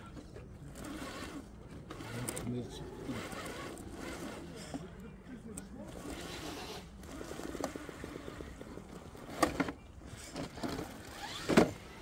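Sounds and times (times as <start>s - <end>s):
electric motor and gears whirring: 0.7s - 4.8s, 5.8s - 12.0s.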